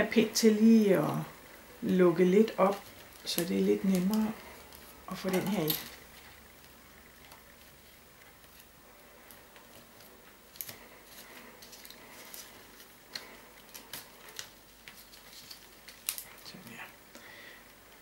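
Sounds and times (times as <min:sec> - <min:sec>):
paper tubes rustling: 0:01.8 - 0:16.9.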